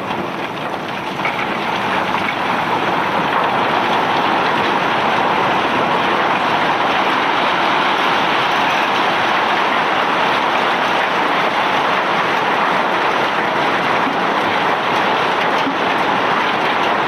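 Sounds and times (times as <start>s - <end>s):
rock pouring from barge: 0.0s - 17.0s.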